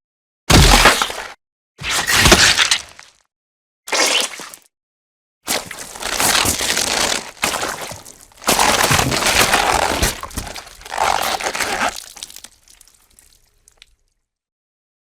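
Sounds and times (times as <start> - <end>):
crunching and cracking gore effect: 0.5 - 3.2, 3.9 - 4.7, 5.5 - 14.0.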